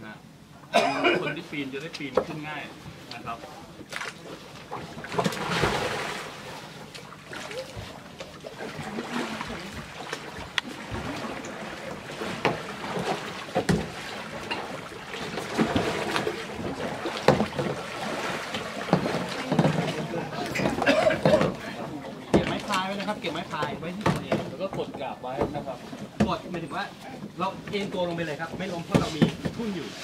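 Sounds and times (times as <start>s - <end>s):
rush of water: 1.1s - 30.0s
paddles striking water: 1.8s - 30.0s.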